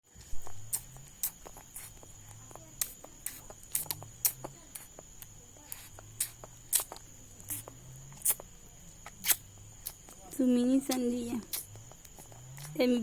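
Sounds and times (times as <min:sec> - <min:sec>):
chewing and smacking: 0:00.1 - 0:13.0.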